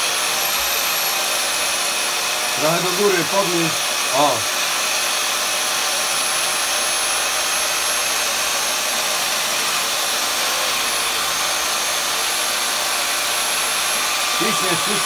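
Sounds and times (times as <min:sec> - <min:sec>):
electric drill boring into wall: 0:00.0 - 0:15.0
handheld vacuum running: 0:00.0 - 0:15.0.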